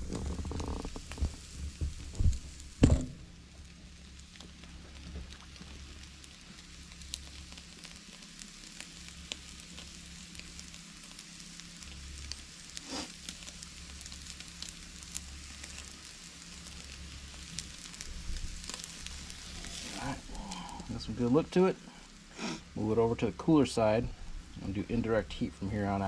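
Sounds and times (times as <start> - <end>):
crackles and pops: 0.0 - 26.0
steak sizzling on a grill: 0.0 - 26.0.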